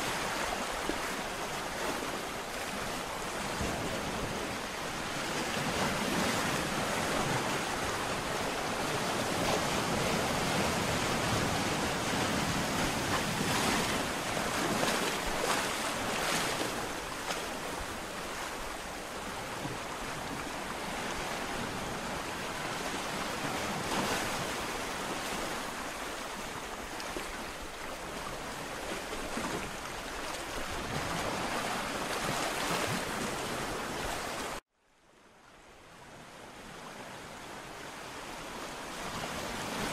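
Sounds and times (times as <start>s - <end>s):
ocean surf breaking: 0.0s - 34.6s.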